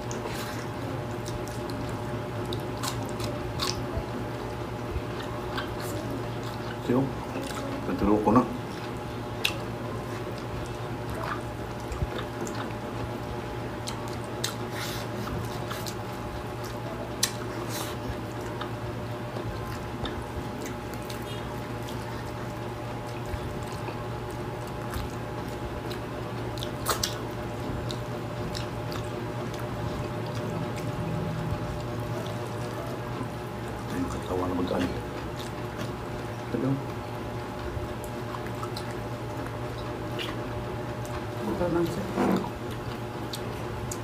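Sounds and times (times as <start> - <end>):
wet chewing and mouth smacks: 0.0 - 7.9, 8.6 - 44.0
steady low hum: 0.0 - 44.0.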